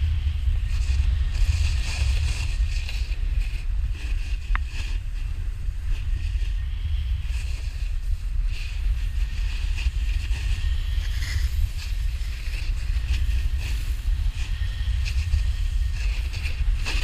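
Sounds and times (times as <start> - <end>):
snowboard scraping across snow: 0.0 - 17.0
wind buffeting microphone: 0.0 - 17.0.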